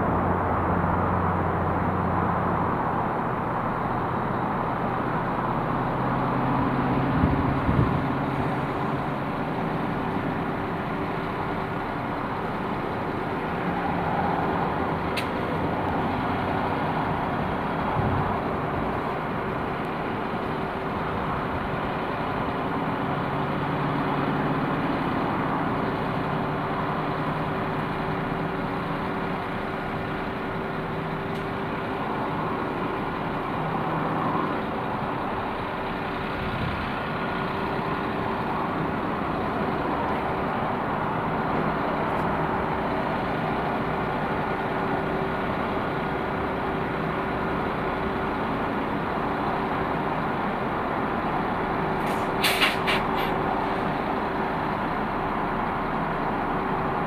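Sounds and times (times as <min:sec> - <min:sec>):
train diesel engines idling: 0:00.0 - 0:57.0.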